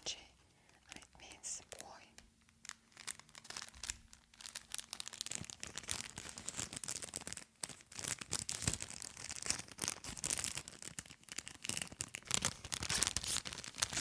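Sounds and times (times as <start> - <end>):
wrapping crinkling and rustling: 0.6 - 14.0.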